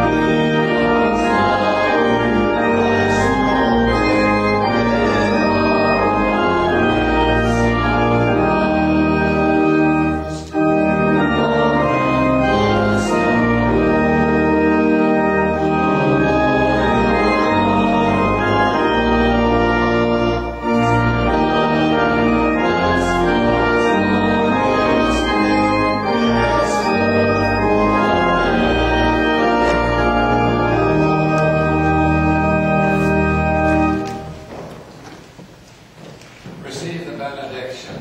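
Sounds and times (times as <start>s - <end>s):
organ chords: 0.0s - 36.0s.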